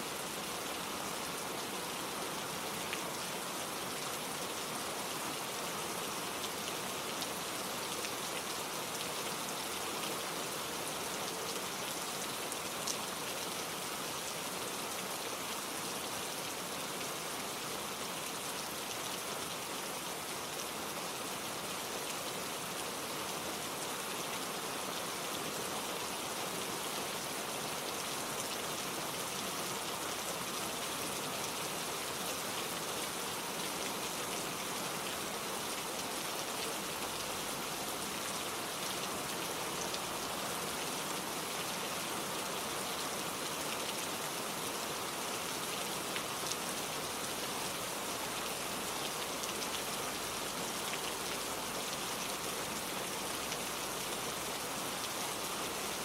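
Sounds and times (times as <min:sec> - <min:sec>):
gentle rain pattering: 0:00.0 - 0:56.0.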